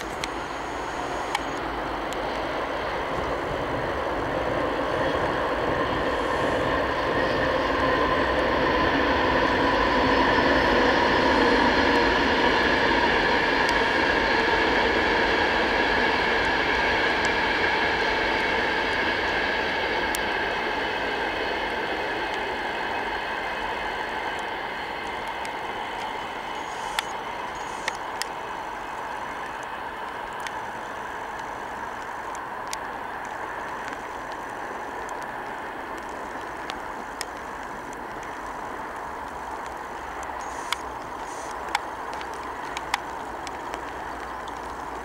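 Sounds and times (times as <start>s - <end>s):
train passing at speed: 0.0s - 45.0s.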